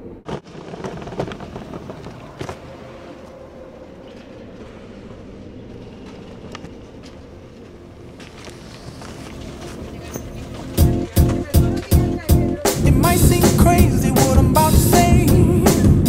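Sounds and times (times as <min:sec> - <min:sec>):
conveyor belt humming: 0:01.5 - 0:16.0.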